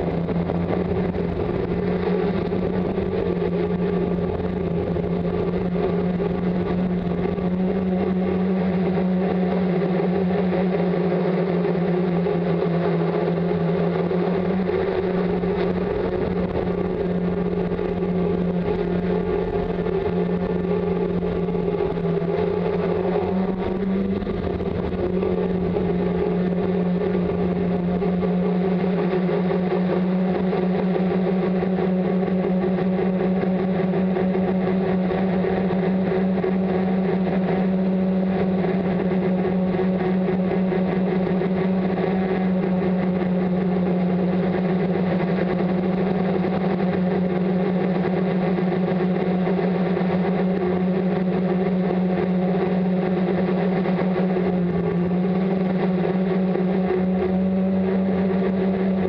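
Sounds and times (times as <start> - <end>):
drone motors buzzing hum: 0.0 - 59.0.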